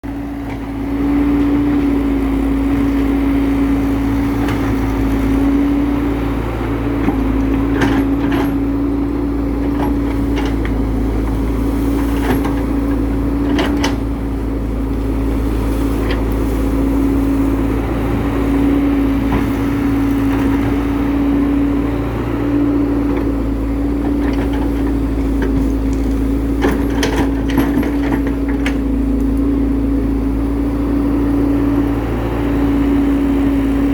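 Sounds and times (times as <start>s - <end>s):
excavator engine and hydraulics whining: 0.0s - 33.9s
excavator knocks and clanks: 0.1s - 33.9s.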